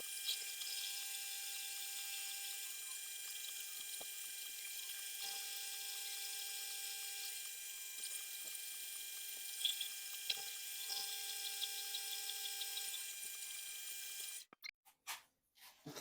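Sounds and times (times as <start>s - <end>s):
metal lathe motor whine: 0.0s - 14.4s.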